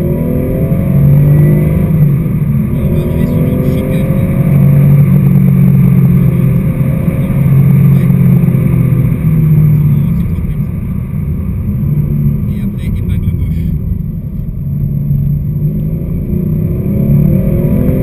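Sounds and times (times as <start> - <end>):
car engine from inside cabin: 0.0 - 18.0.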